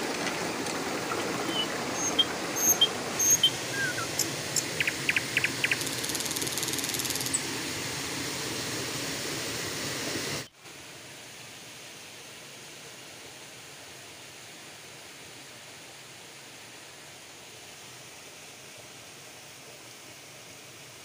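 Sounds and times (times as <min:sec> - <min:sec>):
rocky stream running: 0:00.0 - 0:21.0.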